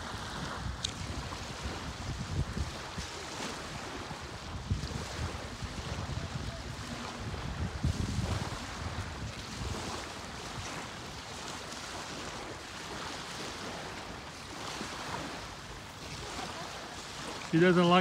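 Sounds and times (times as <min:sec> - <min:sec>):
sea washing against rocky shore: 0:00.0 - 0:18.0
wind on microphone: 0:00.0 - 0:18.0.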